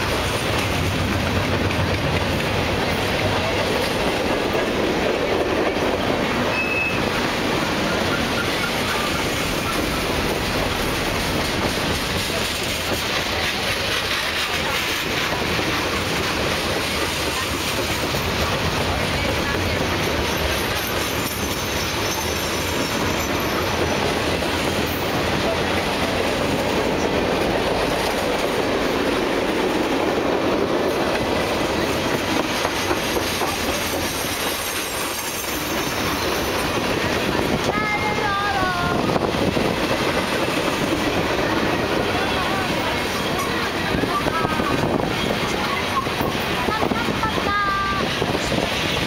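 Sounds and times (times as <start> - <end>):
steel wheels rolling on rails: 0.0 - 49.0
wheels clickety-clack on rail joints: 0.0 - 49.0.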